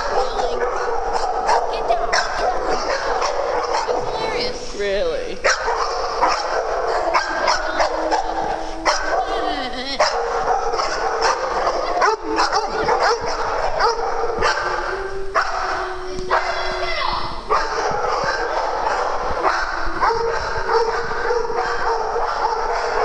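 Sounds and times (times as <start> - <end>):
dog whining: 0.0 - 23.0
dogs barking and yipping: 0.0 - 23.0.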